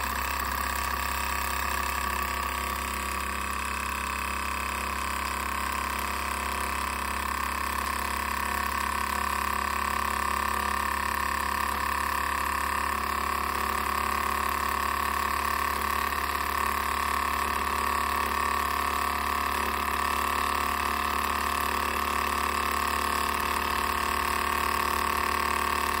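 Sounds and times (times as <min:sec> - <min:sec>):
model steam engine running: 0:00.0 - 0:26.0.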